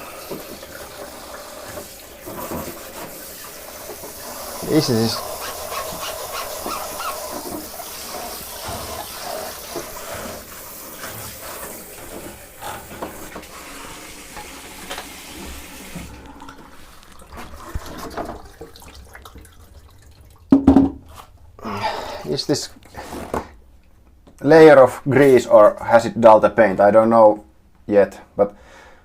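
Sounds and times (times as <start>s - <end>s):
shower water running: 0.0s - 23.4s.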